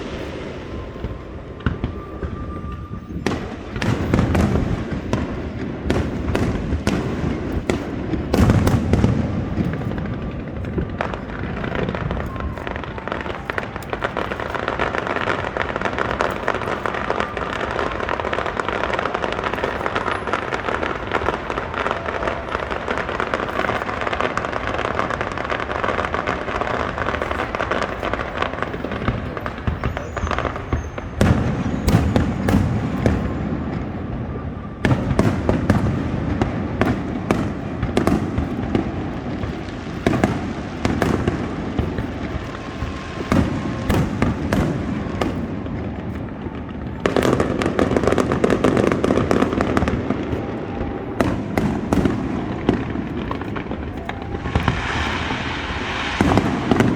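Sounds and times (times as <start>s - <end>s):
fireworks booming: 0.0s - 56.9s
fireworks crackling: 0.0s - 56.9s.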